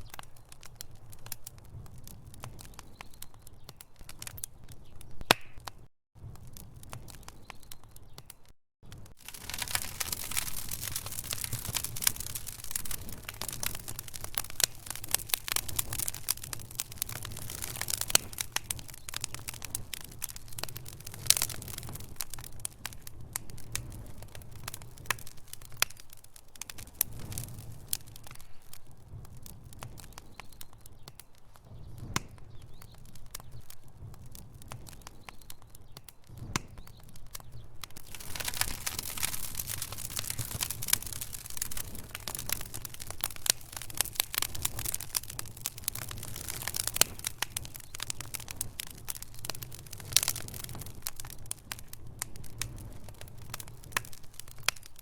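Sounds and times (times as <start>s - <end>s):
low rumble of flame: 0.0s - 55.0s
wood fire crackling: 0.0s - 55.0s.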